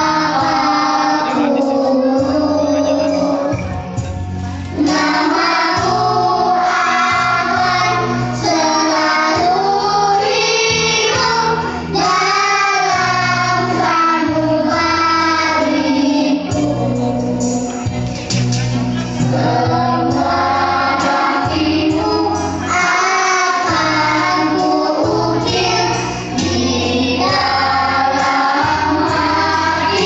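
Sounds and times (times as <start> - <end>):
accompanying music with bass line: 0.0 - 30.0
children singing into microphones: 0.0 - 30.0.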